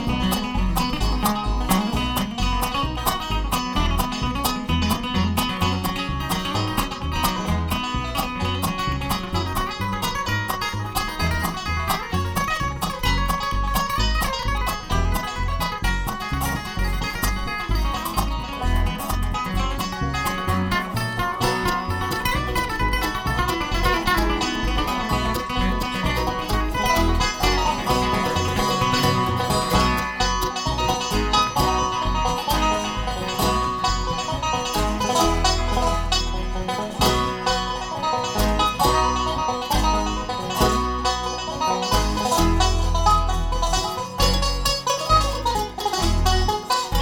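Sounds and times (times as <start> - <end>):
bluegrass band playing: 0.0 - 47.0
fast plucked string picking: 0.0 - 47.0.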